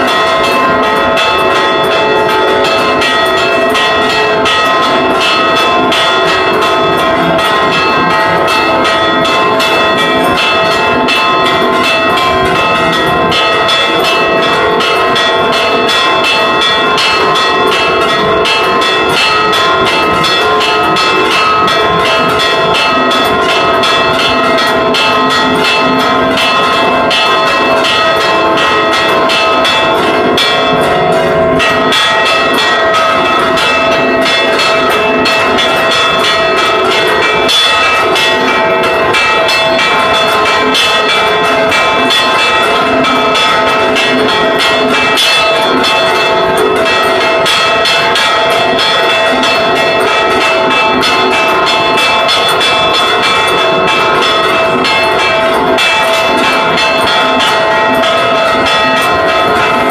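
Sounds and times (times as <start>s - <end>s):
church bells ringing rapidly: 0.0s - 59.9s.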